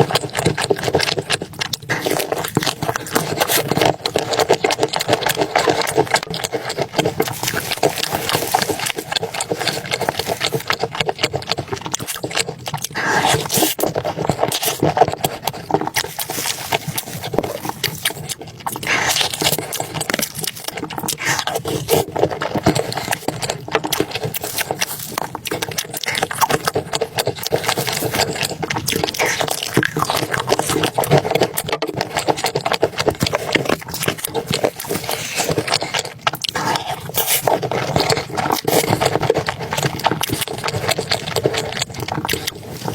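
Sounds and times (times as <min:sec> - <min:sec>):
person chewing and slurping soup: 0:00.0 - 0:42.9.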